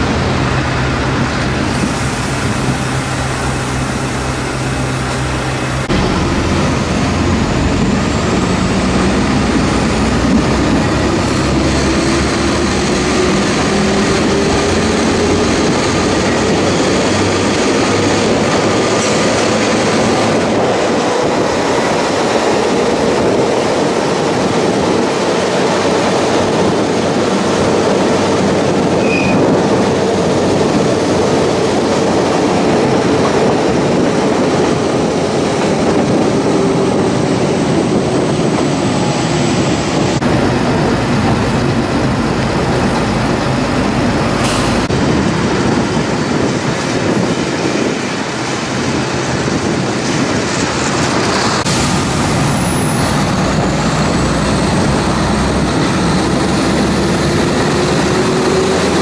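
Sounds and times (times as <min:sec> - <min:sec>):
train running along tracks: 0:00.0 - 0:59.0.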